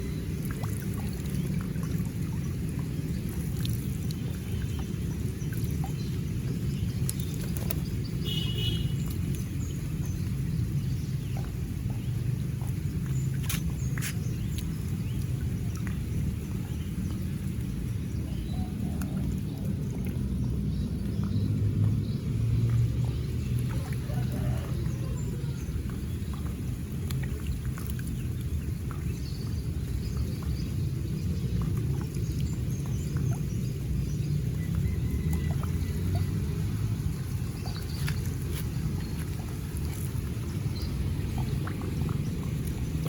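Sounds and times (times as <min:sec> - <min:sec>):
water rushing in a channel: 0:00.0 - 0:43.0.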